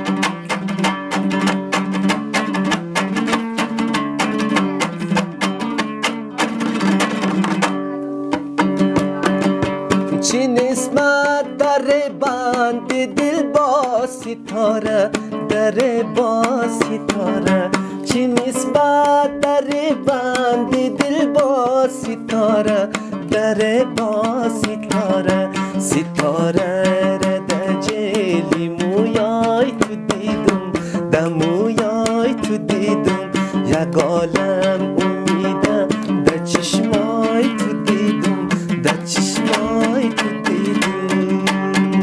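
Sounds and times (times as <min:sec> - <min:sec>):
plucked string instrument music: 0:00.0 - 0:42.0.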